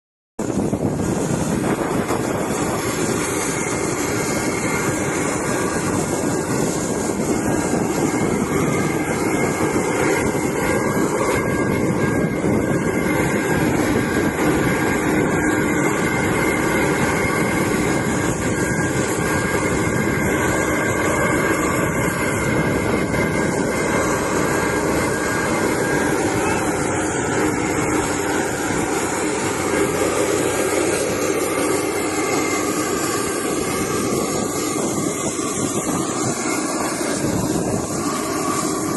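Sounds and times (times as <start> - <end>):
jet engines running: 0.4 - 38.9.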